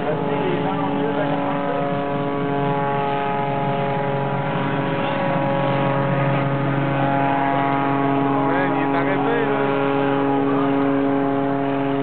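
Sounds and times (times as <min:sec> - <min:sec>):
plane piston engine droning: 0:00.0 - 0:12.0.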